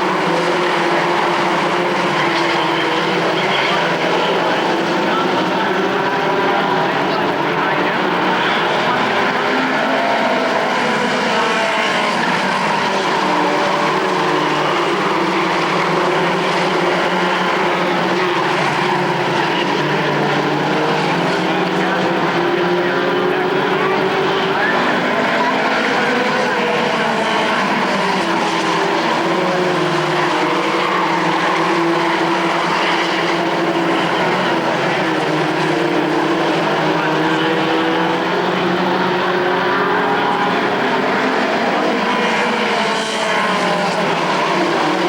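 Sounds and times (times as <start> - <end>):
race truck engines droning: 0.0 - 45.0.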